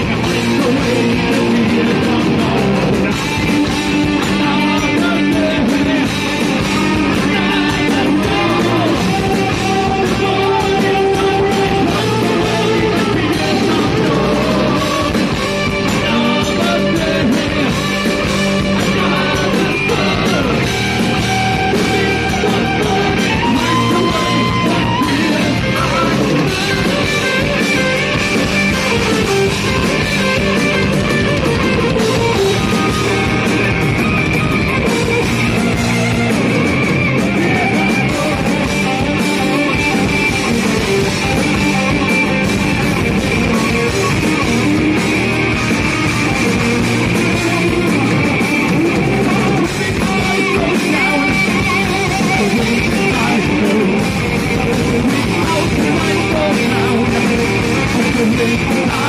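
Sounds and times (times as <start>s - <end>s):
bass guitar: 0.0s - 59.0s
drums: 0.0s - 59.0s
electric guitars: 0.0s - 59.0s
person singing: 0.0s - 59.0s.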